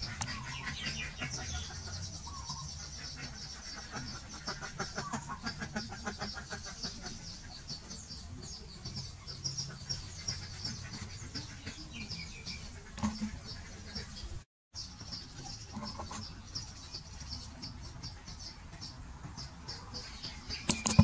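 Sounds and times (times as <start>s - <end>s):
chattering bird trill: 0.0s - 21.0s
small birds chirping: 0.0s - 21.0s.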